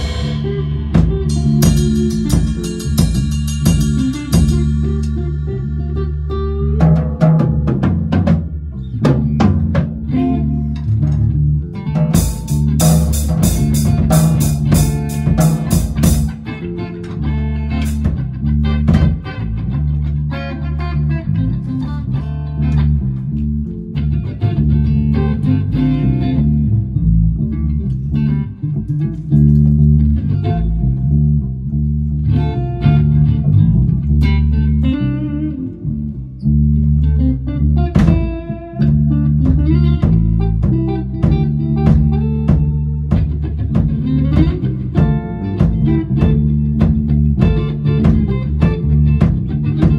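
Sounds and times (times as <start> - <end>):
bass guitar: 0.0 - 49.9
electric guitar: 0.0 - 49.9.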